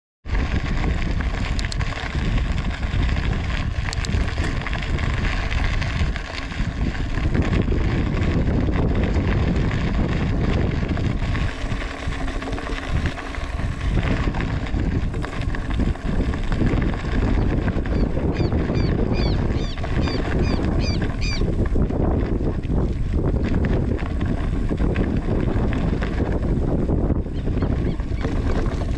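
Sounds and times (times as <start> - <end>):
wind buffeting microphone: 0.2 - 28.9.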